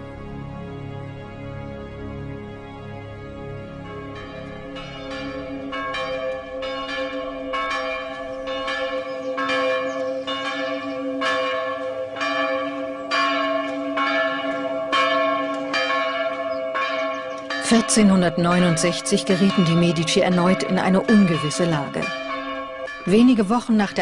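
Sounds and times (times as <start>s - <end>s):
church bells pealing: 2.4s - 24.0s.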